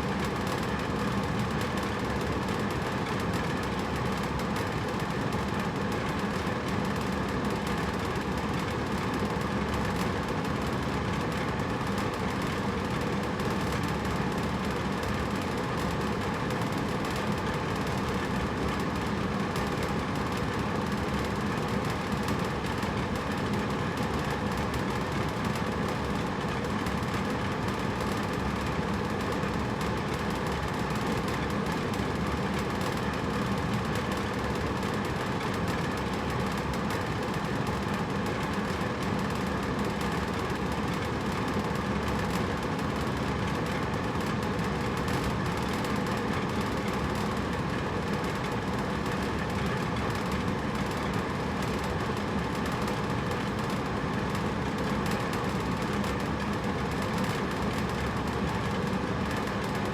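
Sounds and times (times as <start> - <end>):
air conditioner whooshing hum: 0.0 - 59.9.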